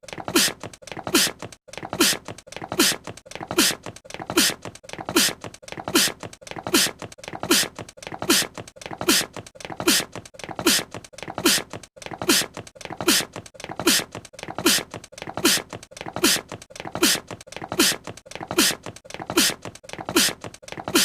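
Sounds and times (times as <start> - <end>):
cartoon character sneezing: 0.3 - 2.2, 2.8 - 16.4, 17.0 - 21.0.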